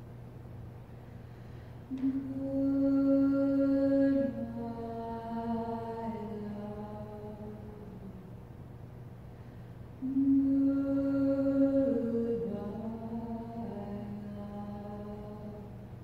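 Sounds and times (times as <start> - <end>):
low steady drone: 0.8 - 16.0.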